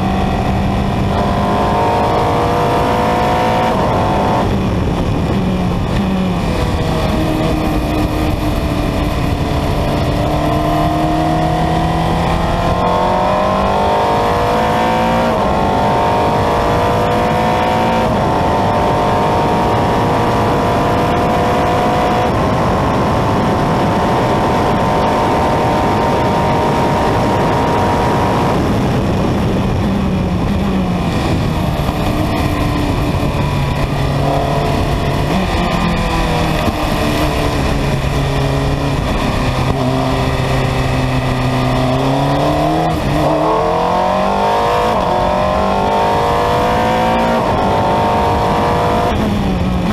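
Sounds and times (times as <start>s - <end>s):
racing car engine revving: 0.0s - 49.9s
wind rush: 0.0s - 49.9s.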